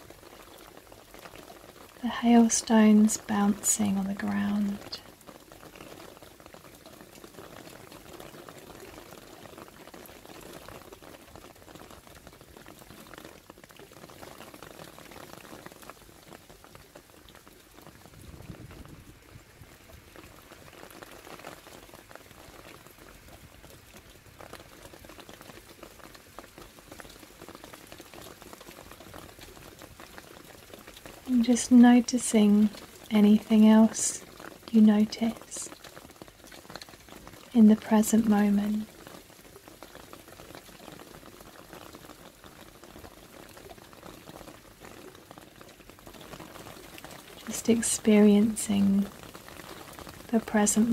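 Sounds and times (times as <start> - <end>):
rain and hail pattering: 0.0 - 50.9.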